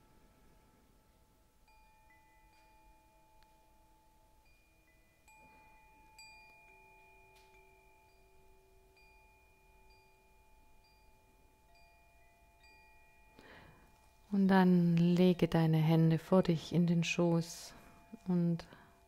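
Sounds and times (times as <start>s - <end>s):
soft chime-like meditation music: 0.0s - 19.0s.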